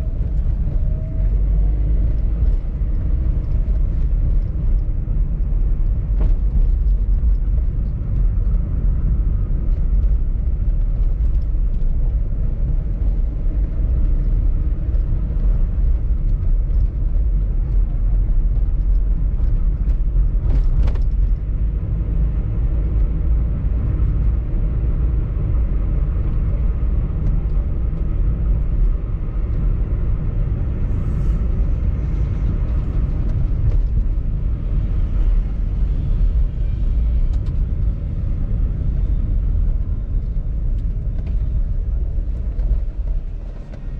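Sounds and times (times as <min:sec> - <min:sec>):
car driving rumble: 0:00.0 - 0:43.9.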